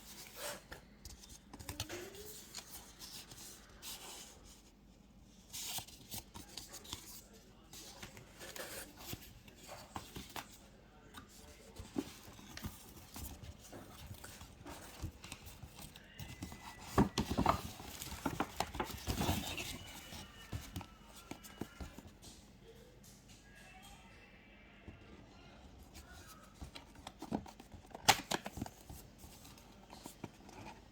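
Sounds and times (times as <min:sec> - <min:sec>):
paper and cardboard rustling: 0:00.0 - 0:22.5, 0:25.8 - 0:30.9.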